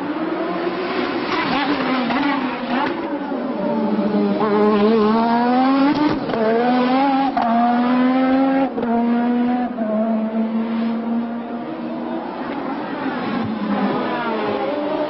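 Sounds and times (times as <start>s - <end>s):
racing car engine with gear changes: 0.0s - 15.0s.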